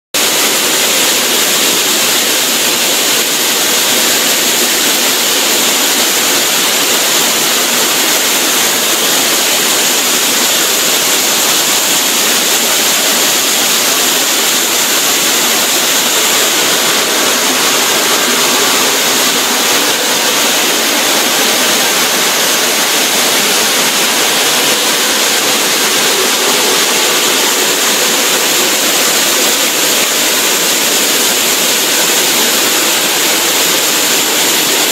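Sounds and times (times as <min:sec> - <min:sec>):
stone cutting saw hissing rush: 0:00.2 - 0:34.9.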